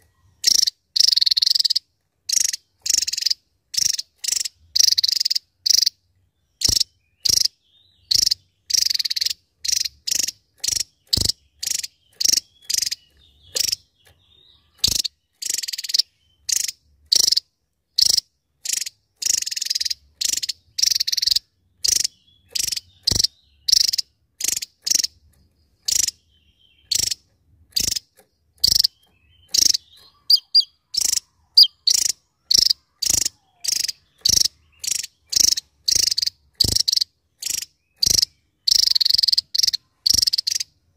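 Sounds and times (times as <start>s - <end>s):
bird calling in harsh bursts: 0.0s - 6.0s, 6.6s - 25.2s, 25.8s - 40.9s.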